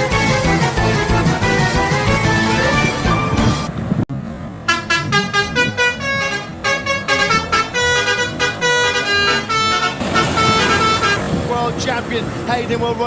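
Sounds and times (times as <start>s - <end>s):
musical bus horn tune: 0.0s - 3.7s, 4.6s - 11.4s.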